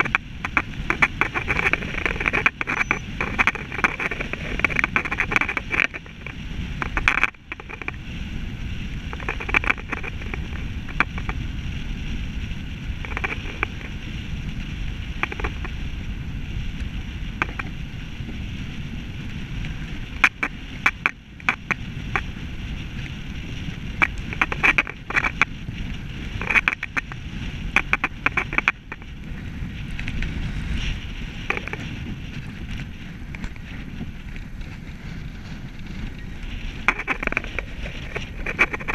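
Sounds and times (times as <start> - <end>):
bicycle clicks and rattles: 0.0 - 38.9
bicycle tyres rumbling on tarmac: 0.0 - 38.9
wind on microphone: 0.0 - 38.9.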